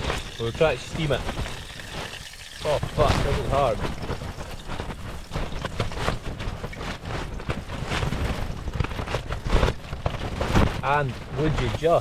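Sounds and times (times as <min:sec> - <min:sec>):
small knocks and clatter: 0:00.0 - 0:12.0
wind buffeting microphone: 0:00.0 - 0:12.0.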